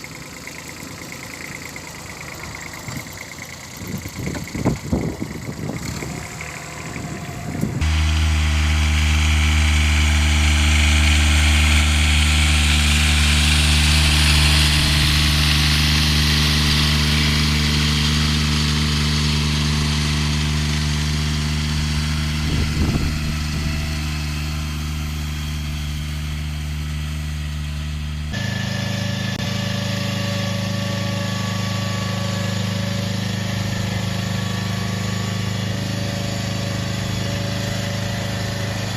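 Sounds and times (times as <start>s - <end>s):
deep tractor engine: 0.0s - 38.9s
higher-pitched engine: 0.0s - 38.9s.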